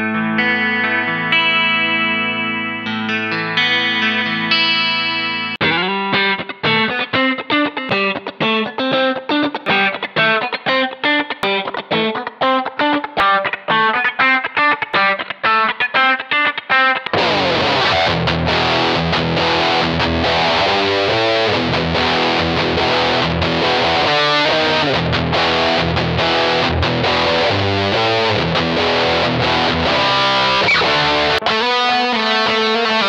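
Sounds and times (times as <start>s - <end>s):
electric guitar with distortion: 0.0s - 33.0s.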